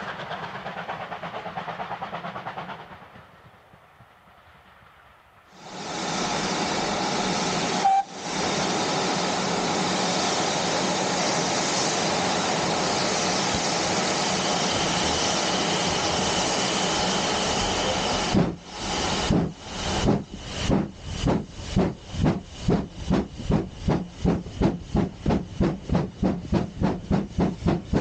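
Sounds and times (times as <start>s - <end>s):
steam locomotive chuffing: 0.0s - 4.9s, 5.6s - 28.0s
loud steam hiss: 5.5s - 28.0s.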